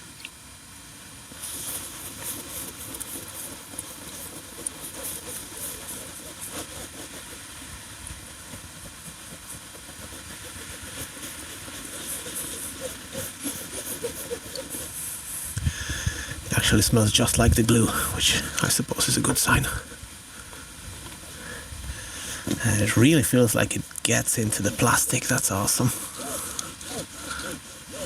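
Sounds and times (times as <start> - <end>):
cloth rubbing on inflatable boat: 1.2 - 28.0.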